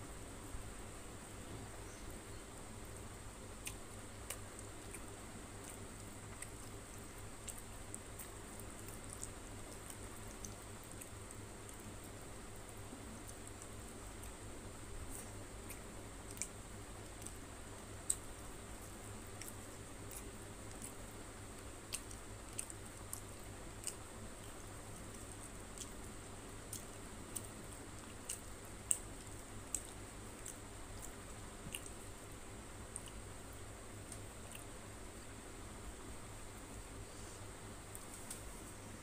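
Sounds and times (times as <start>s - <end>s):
steady low hum: 0.0s - 39.0s
person chewing food: 3.5s - 35.3s.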